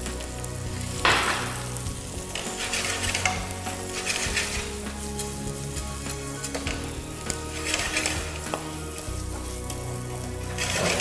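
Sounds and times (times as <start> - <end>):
rice poured into pan: 0.0 - 11.0
rice sizzling in oil: 0.0 - 11.0
wooden spoon stirring rice: 0.0 - 11.0.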